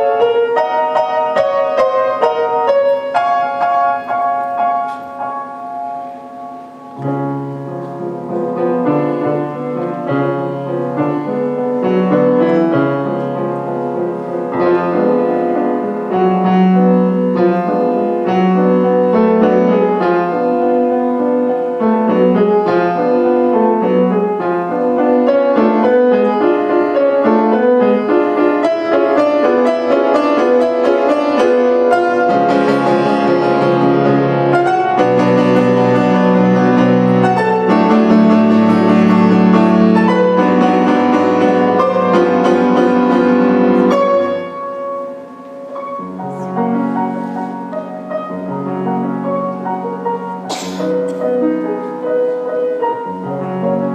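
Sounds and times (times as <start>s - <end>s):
solo piano piece: 0.0s - 53.9s.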